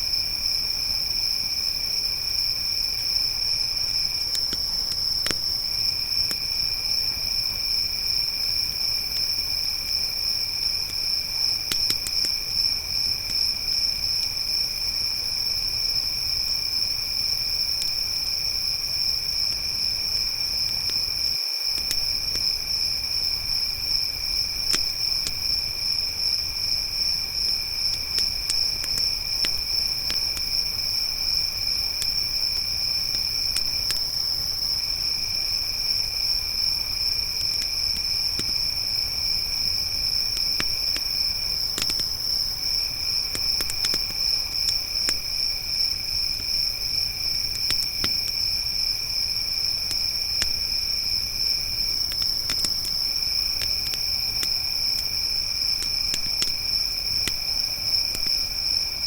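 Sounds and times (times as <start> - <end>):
campfire crackles: 0.0 - 59.0
high-pitched cricket trill: 0.0 - 59.0
lower faint cricket trill: 0.0 - 59.0.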